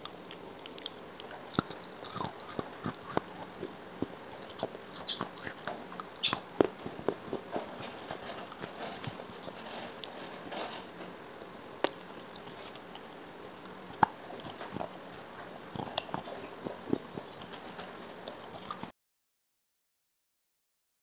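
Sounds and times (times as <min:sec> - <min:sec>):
clay pot crunching in bites: 0:00.0 - 0:10.9, 0:11.8 - 0:18.9.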